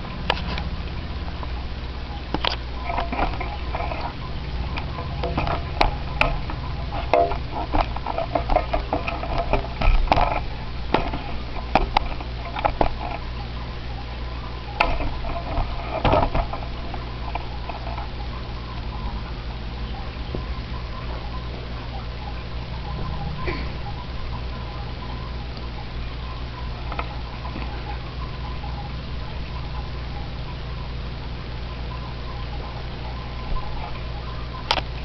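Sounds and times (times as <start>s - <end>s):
aquarium equipment humming: 0.0s - 35.0s
clicks taps and crackling: 0.0s - 35.0s.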